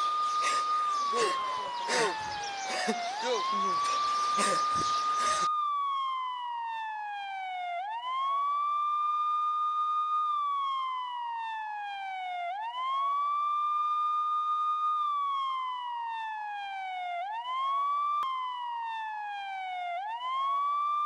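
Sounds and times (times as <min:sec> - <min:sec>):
emergency vehicle siren wailing: 0:00.0 - 0:14.1, 0:15.0 - 0:21.0.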